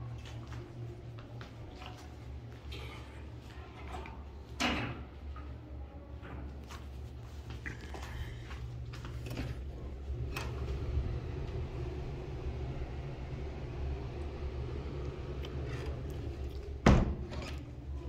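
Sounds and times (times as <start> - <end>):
ventilation hum: 0.0 - 18.0.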